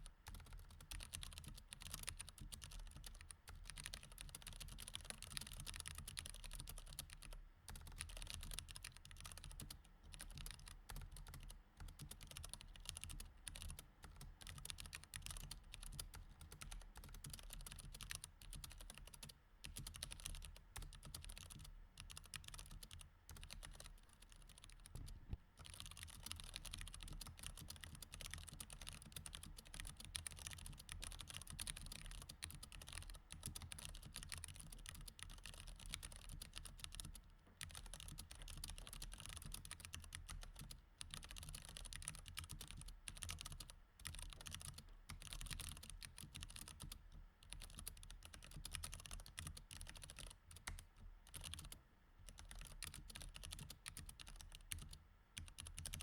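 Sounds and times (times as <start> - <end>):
mechanical keyboard typing: 0.3 - 56.0.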